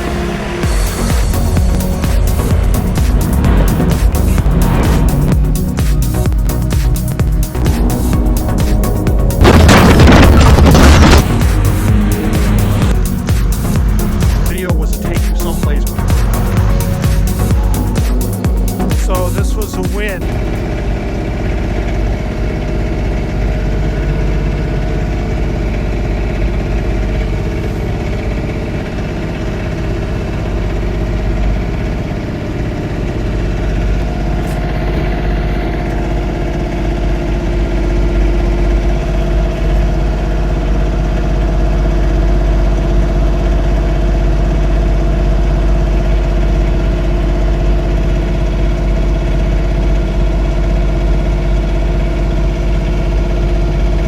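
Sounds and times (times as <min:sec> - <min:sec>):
tractor diesel engine droning: 0:00.0 - 0:54.0.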